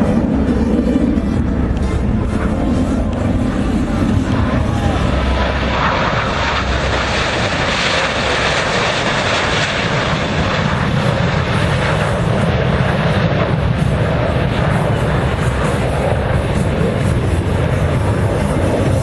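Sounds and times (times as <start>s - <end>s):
aircraft engine passing: 0.0s - 19.0s.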